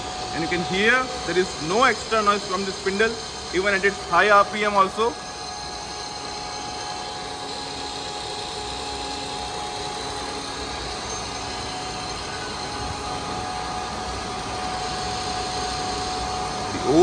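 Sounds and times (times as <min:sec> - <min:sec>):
milling machine humming: 0:00.0 - 0:17.0.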